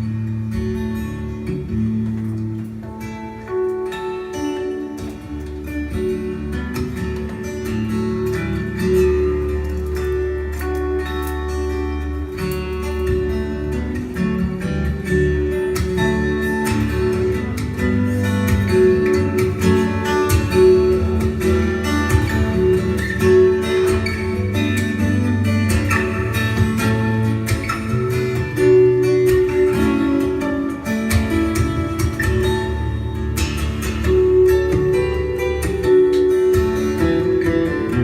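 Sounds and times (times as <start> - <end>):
acoustic guitar instrumental: 0.0 - 38.0.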